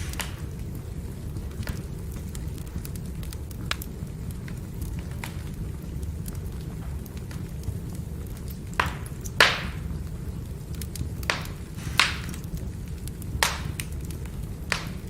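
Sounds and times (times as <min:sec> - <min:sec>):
firewood burning with rushing flame: 0:00.0 - 0:15.0
wood crackling and popping: 0:00.0 - 0:15.0.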